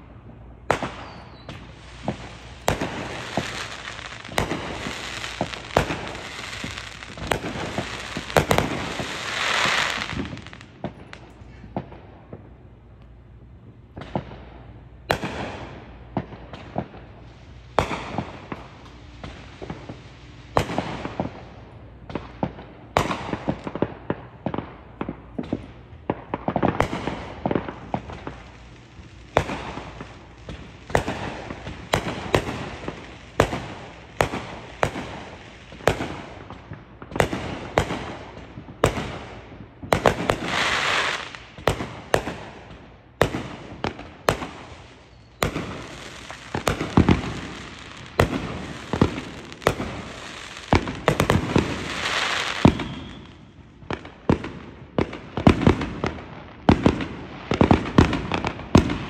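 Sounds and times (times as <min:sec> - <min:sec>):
fireworks bangs: 0:00.0 - 0:12.7, 0:13.6 - 0:59.0
fireworks crackling: 0:00.0 - 0:59.0.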